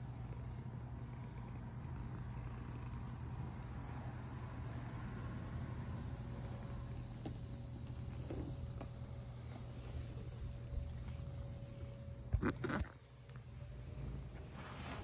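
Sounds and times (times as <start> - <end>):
cat purring: 0.0 - 4.1, 4.7 - 15.0.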